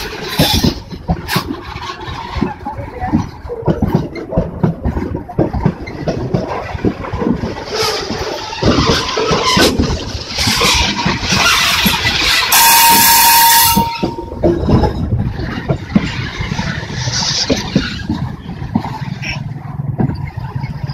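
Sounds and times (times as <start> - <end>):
freight train wheels knocking: 0.0 - 20.9.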